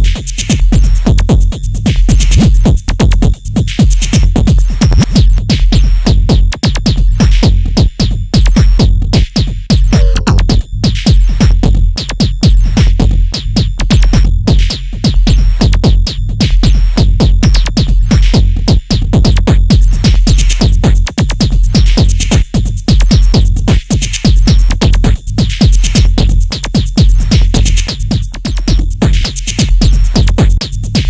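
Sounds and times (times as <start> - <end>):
fast percussive clicks and hits: 0.0 - 31.0
heavy deep bass: 0.0 - 31.0.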